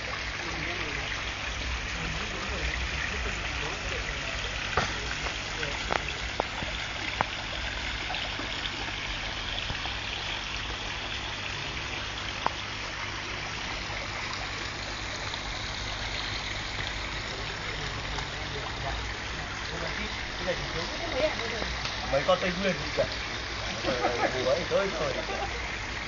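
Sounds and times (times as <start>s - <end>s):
water running over rocks: 0.0s - 26.0s.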